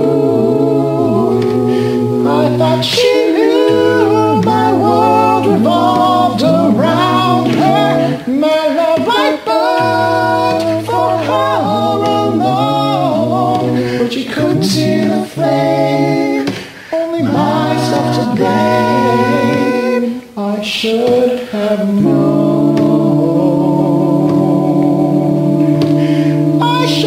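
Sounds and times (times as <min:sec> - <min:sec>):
a cappella harmony singing: 0:00.0 - 0:27.0.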